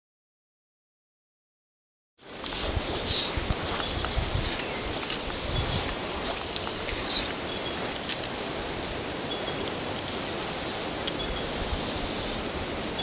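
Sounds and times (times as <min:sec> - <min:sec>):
shallow river flowing: 0:02.2 - 0:13.0.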